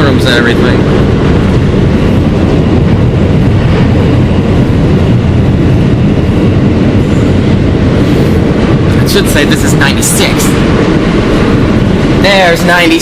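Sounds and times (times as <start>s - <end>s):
subway train wheels rumbling: 0.0s - 13.0s.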